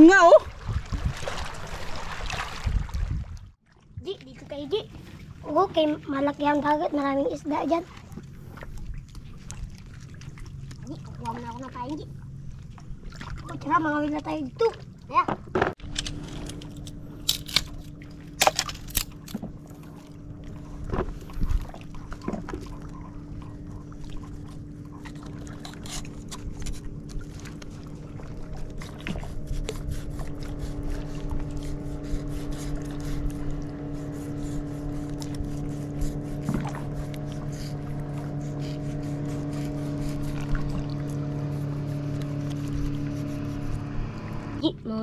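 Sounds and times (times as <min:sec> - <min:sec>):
boat engine running: 0:03.5 - 0:45.0.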